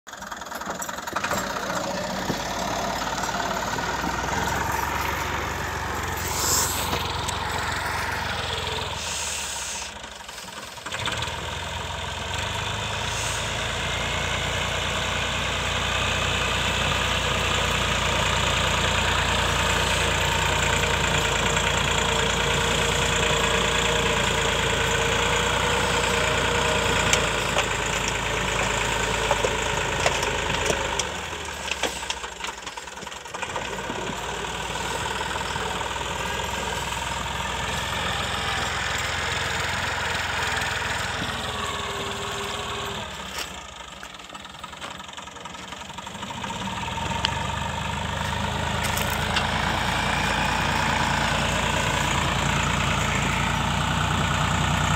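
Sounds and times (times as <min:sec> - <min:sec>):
tractor diesel engine running: 0:00.1 - 0:54.9.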